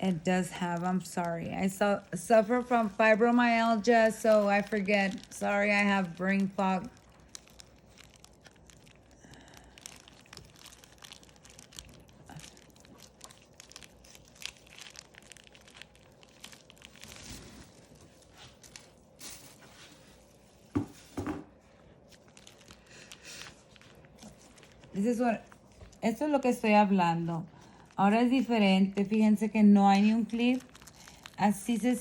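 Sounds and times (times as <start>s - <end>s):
plastic pouch crinkling: 0.0s - 26.8s, 27.4s - 32.0s.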